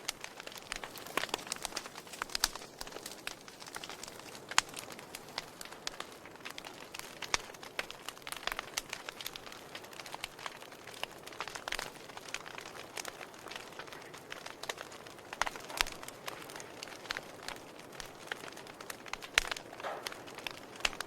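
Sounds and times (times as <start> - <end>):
fire hiss: 0.0 - 21.0
wood fire crackling and popping: 0.0 - 21.0.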